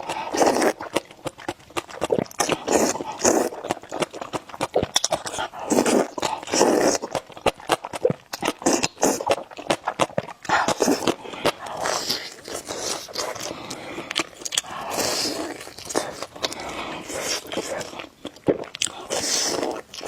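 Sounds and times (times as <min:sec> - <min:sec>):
noodles being slurped: 0:00.0 - 0:20.0.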